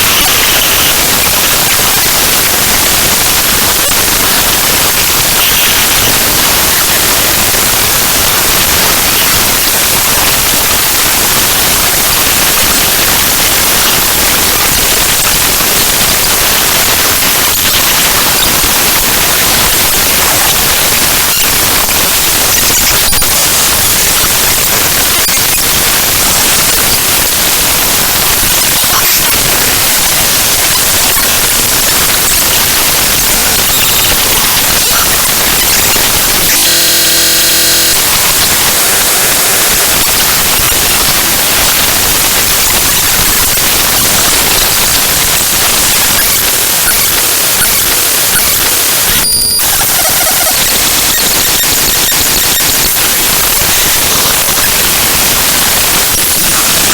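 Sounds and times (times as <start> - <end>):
buzzy tone: 0.0 - 56.9
harsh static: 0.0 - 56.9.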